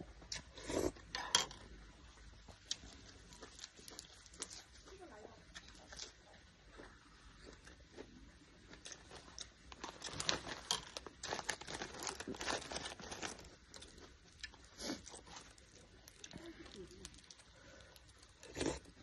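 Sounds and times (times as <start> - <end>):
crackling and rustling: 1.3 - 6.9, 7.5 - 19.0.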